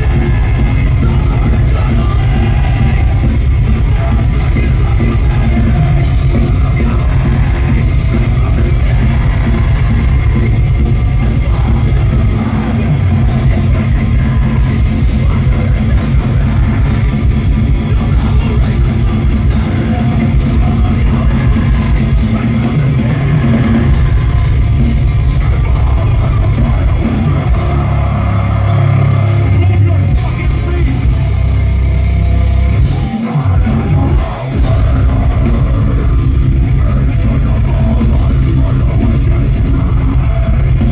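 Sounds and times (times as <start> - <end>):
bass guitar: 0.0 - 40.9
distorted guitars: 0.0 - 40.9
drum kit: 0.0 - 40.9
harsh vocals: 0.0 - 40.9.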